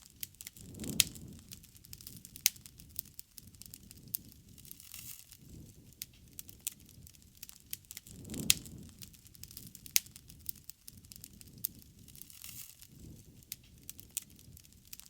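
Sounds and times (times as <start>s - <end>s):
bonfire crackling: 0.0s - 15.0s
low rumble of flame: 0.0s - 15.0s
fire whoosh: 0.2s - 15.0s.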